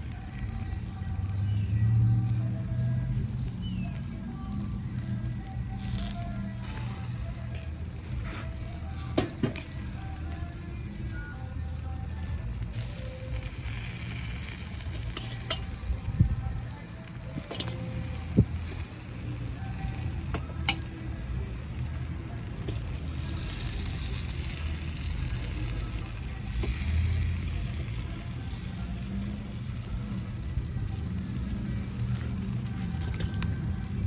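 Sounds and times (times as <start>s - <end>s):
chicken sizzling on a grill: 0.0s - 34.0s.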